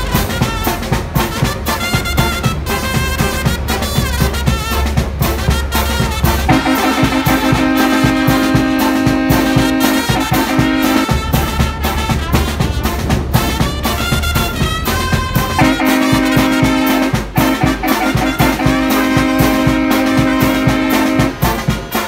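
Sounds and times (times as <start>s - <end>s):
brass band music: 0.0s - 22.0s
deep bass line: 0.0s - 22.0s.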